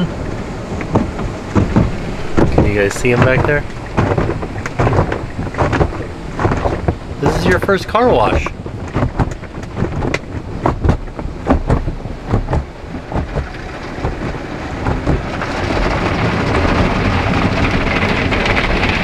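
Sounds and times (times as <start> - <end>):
rush of spray: 0.0 - 19.0
wash brushes sweeping over car: 0.0 - 19.0
water splashing against car: 0.0 - 19.0.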